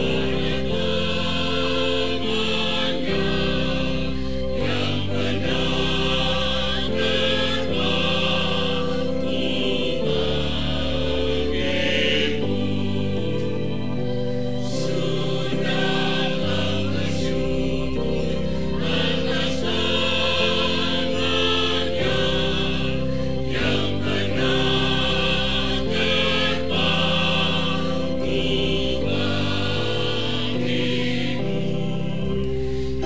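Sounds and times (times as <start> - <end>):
choir singing a hymn: 0.0 - 33.0
organ chords: 0.0 - 33.0.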